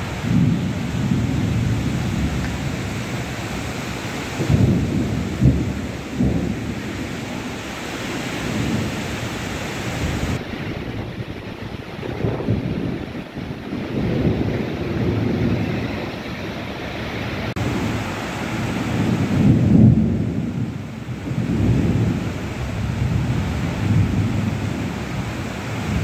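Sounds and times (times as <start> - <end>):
heavy rain pouring: 0.0 - 26.0
low rumbling surges: 0.0 - 26.0.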